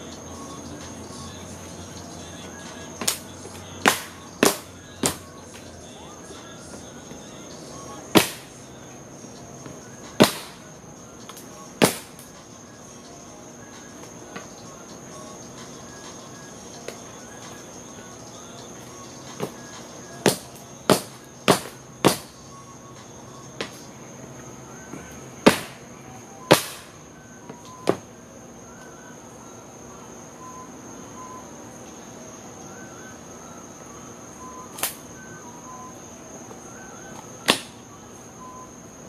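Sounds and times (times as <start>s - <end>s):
high insect trill: 0.0s - 39.0s.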